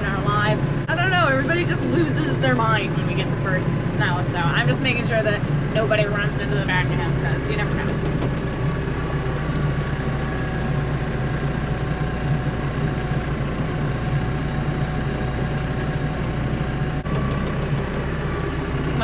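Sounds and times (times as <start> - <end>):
tractor diesel engine drone: 0.0 - 19.0.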